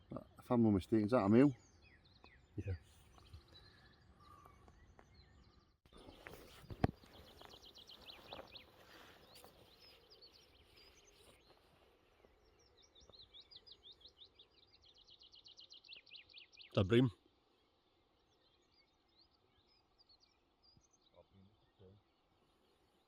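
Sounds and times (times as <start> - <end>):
songbird chirps and trills: 0.0 - 23.0.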